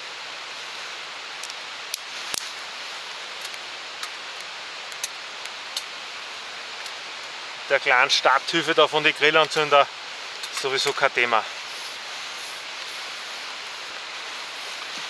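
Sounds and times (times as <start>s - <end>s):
steady fire hiss: 0.0s - 15.0s
fire crackling and snapping: 0.1s - 15.0s.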